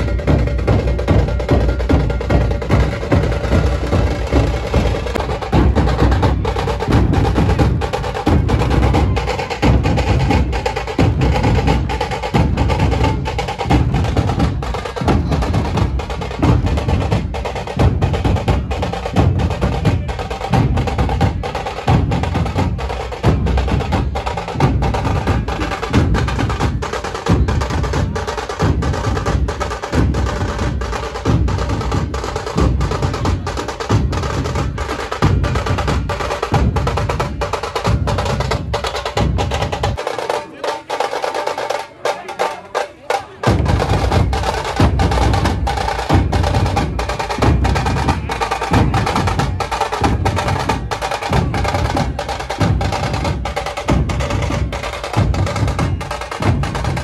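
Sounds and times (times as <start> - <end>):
barrel drums beaten with sticks: 0.0 - 57.0
sharp cracks of small drums: 0.0 - 57.0.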